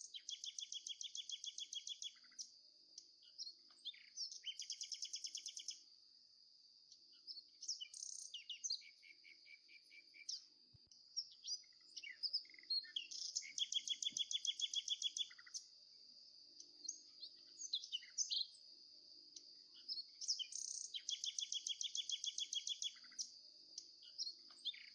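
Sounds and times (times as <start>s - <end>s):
songbirds chirping and trilling: 0.0s - 24.9s.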